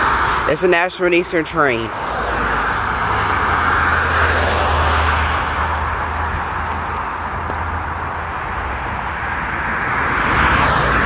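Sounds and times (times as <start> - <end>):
passing vehicles rumbling: 0.0 - 11.0.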